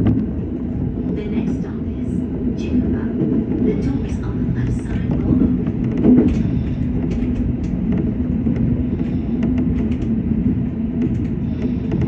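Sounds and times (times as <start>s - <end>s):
electric train hum: 0.0s - 12.0s.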